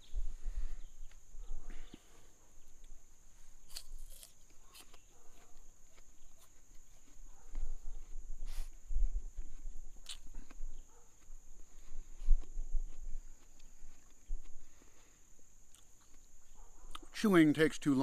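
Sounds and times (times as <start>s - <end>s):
apple being bitten and chewed: 2.6s - 17.1s.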